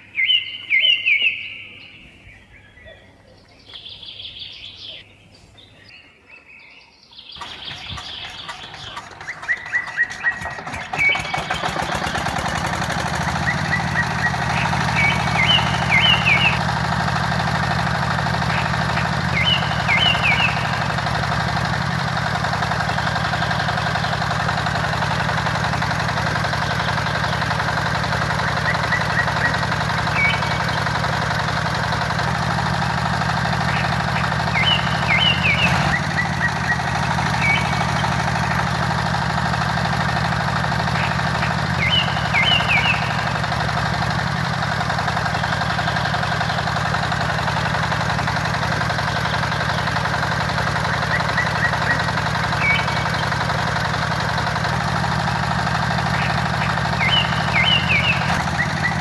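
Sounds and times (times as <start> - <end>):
birds chirping: 0.0 - 59.0
small tractor motor running: 7.3 - 59.0.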